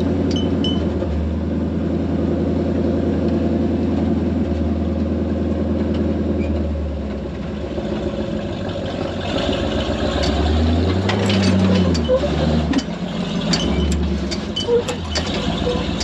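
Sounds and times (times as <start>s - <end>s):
engine pulling under load: 0.0s - 16.0s.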